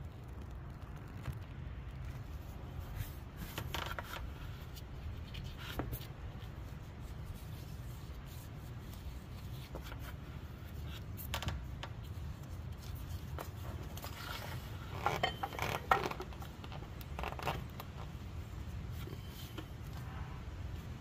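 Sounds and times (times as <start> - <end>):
soft rustling: 0.0 - 21.0.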